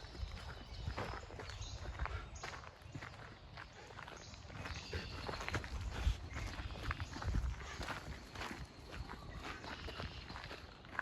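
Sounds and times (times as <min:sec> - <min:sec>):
footsteps crunching on trail: 0:00.0 - 0:11.0.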